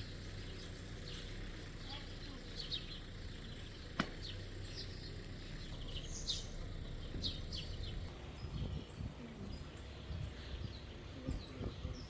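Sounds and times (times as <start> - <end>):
low outdoor rumble: 0.0 - 12.0
songbirds chirping: 0.0 - 12.0.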